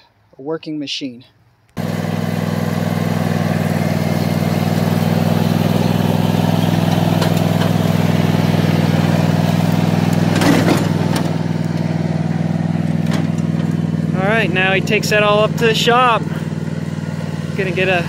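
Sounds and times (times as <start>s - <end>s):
lawn tractor engine idling: 1.8s - 18.0s.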